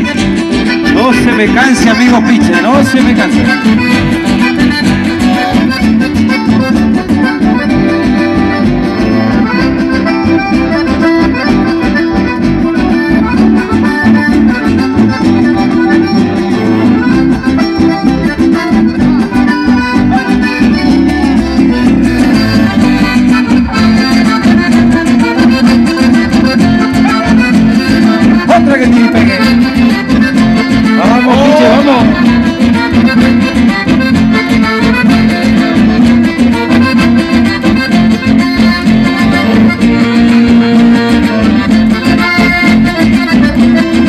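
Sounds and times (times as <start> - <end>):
accordion folk music: 0.0 - 44.0.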